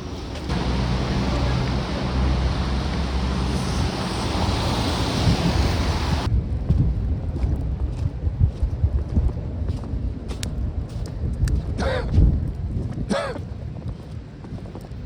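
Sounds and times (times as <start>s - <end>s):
wind buffeting microphone: 0.2s - 15.0s
gusts thumping microphone: 0.5s - 14.1s.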